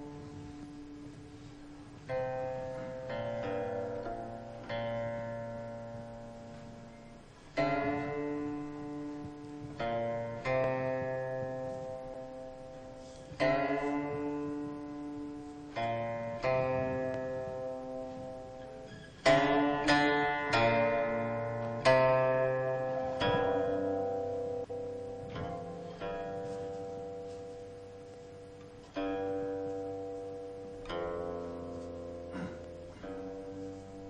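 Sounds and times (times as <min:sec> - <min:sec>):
slow plucked-string music: 0:00.0 - 0:34.0.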